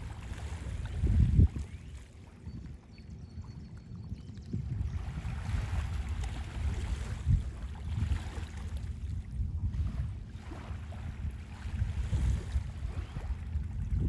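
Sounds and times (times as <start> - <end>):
small waves lapping: 0.0 - 13.9
wind buffeting microphone: 0.0 - 14.0.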